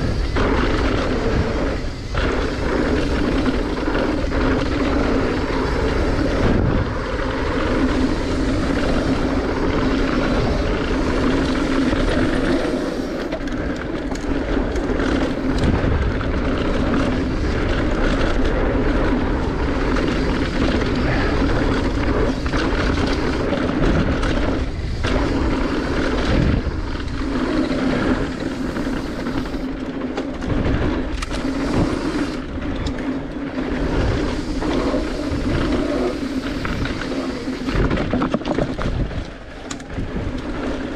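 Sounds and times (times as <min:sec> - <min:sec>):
bike tyres rumbling over dirt: 0:00.0 - 0:40.9
wind rushing over microphone: 0:00.0 - 0:40.9.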